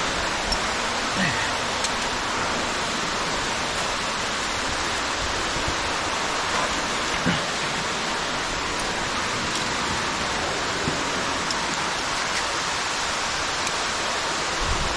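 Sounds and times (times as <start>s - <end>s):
underground waterfall rushing: 0.0s - 14.9s.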